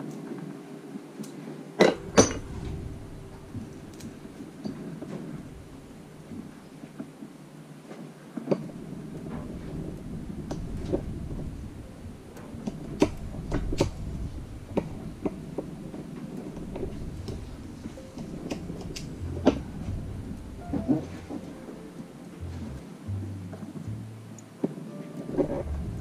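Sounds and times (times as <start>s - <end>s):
steady low rumble: 1.6s - 7.5s, 8.7s - 24.6s, 25.3s - 26.0s.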